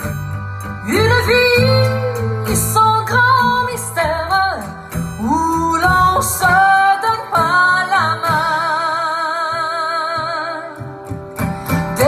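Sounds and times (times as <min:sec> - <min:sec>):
guitar: 0:00.0 - 0:12.0
woman singing: 0:00.8 - 0:11.2.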